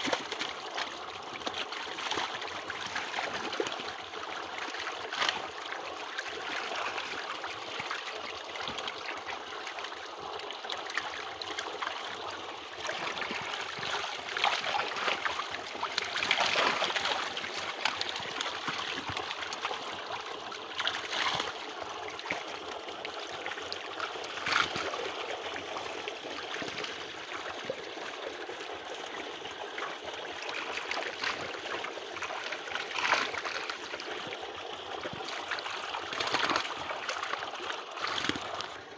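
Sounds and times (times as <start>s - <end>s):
fish splashing in water: 0.0s - 10.0s, 10.6s - 38.9s.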